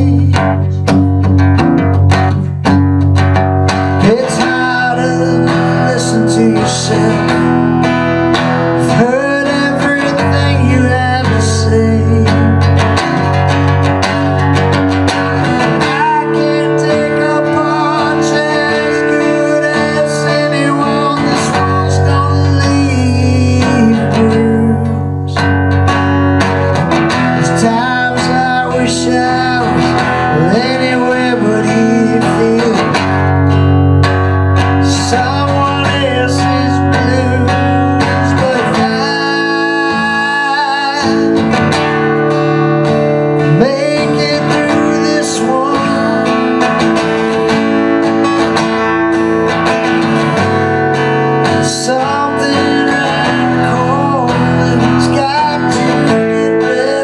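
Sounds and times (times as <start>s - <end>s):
man singing: 0.0s - 1.3s, 3.7s - 13.5s, 15.1s - 25.9s, 26.6s - 33.7s, 34.6s - 57.0s
acoustic guitar strumming: 0.0s - 57.0s.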